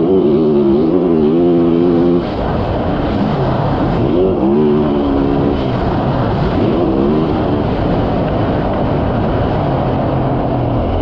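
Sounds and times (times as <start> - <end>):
motorcycle engine revving: 0.0 - 11.0
steady rush of noise: 0.0 - 11.0.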